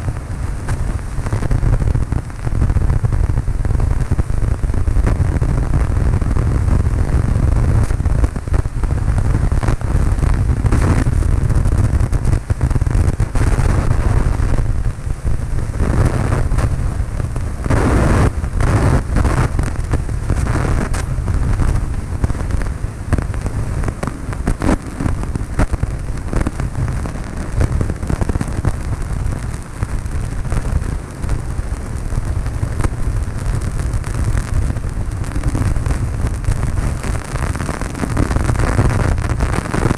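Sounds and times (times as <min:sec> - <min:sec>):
constant crackle: 0:00.0 - 0:39.9.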